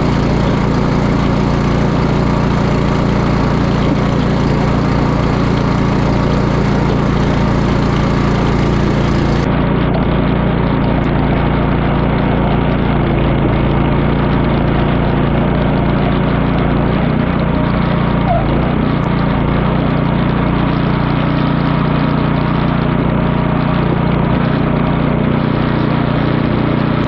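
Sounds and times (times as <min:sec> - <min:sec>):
snowblower engine running: 0:00.0 - 0:27.0.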